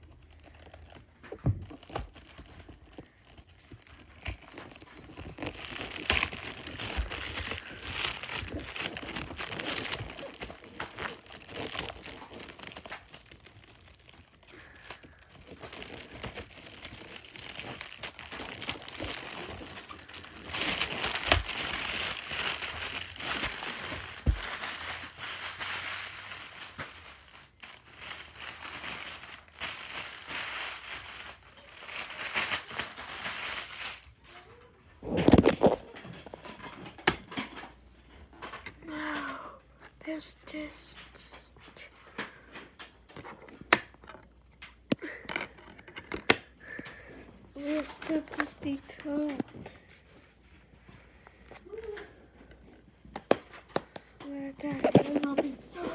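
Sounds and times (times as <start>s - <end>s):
plastic packaging crinkling: 0.0s - 39.4s, 40.0s - 55.9s.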